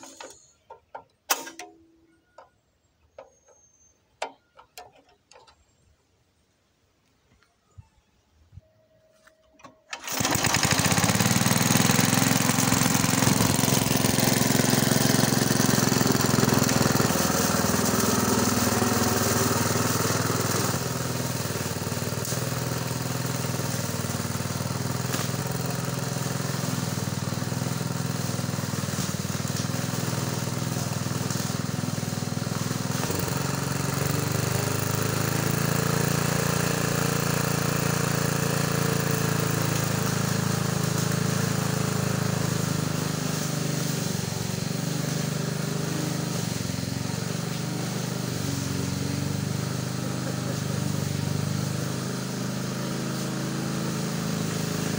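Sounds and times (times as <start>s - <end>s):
lawn mower engine running: 0.0s - 5.6s, 9.5s - 54.9s.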